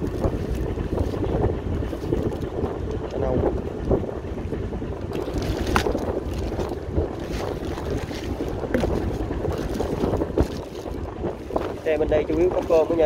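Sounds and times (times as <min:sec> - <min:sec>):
wet clicks and rustling of fish: 0:00.0 - 0:04.0, 0:05.0 - 0:13.0
boat engine rumble: 0:00.0 - 0:13.0
wind buffeting microphone: 0:00.0 - 0:13.0.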